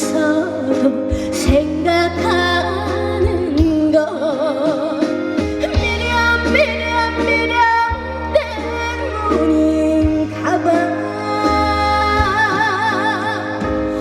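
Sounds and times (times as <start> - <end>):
amplified backing music with bass: 0.0 - 14.0
woman singing with vibrato: 0.0 - 14.0.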